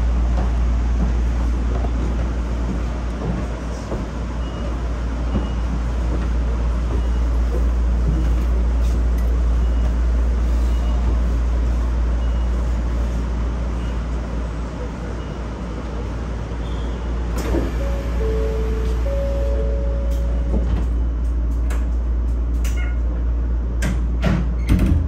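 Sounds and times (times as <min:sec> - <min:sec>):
monorail train rumbling: 0:00.0 - 0:25.0.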